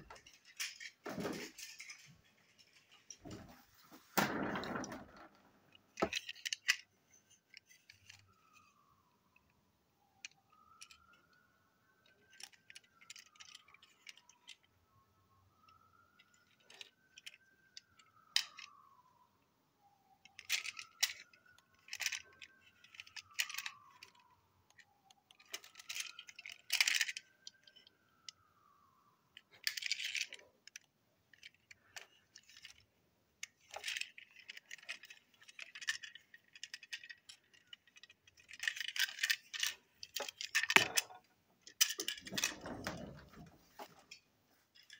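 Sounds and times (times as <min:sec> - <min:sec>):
model train wagons clicking and rattling: 0:00.0 - 0:08.8, 0:10.2 - 0:14.7, 0:15.6 - 0:19.0, 0:20.2 - 0:28.5, 0:29.3 - 0:44.9.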